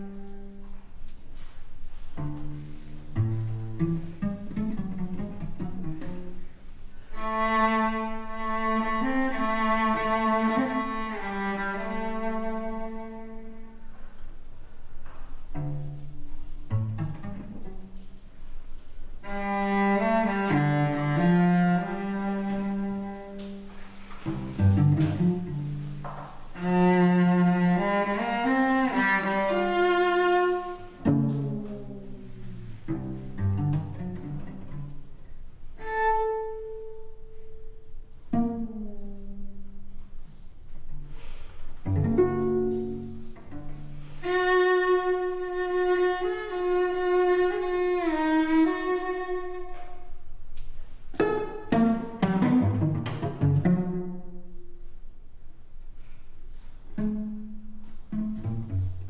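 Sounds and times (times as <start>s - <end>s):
solo cello playing: 0.0s - 55.8s, 56.5s - 59.0s.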